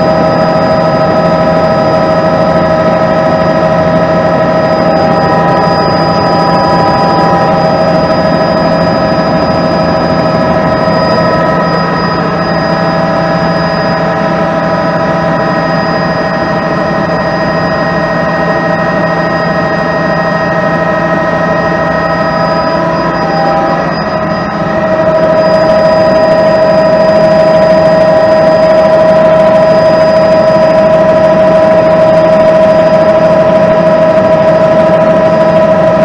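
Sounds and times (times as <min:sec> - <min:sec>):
constant whine: 0:00.0 - 0:36.0
helicopter engine and rotor drone: 0:00.0 - 0:36.0.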